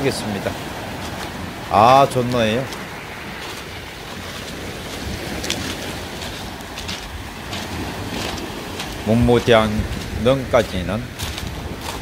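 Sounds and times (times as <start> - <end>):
surf breaking on pebble beach: 0.0 - 12.0.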